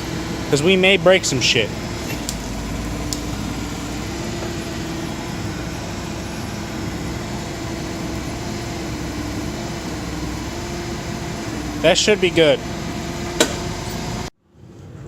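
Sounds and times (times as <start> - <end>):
machine hum: 0.0 - 14.3.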